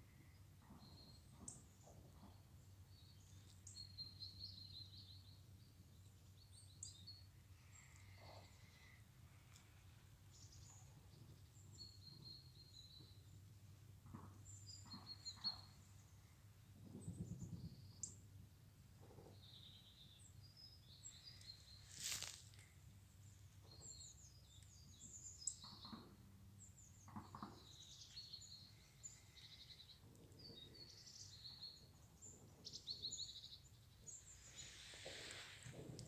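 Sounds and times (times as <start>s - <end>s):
faint outdoor ambience: 0.0s - 36.0s.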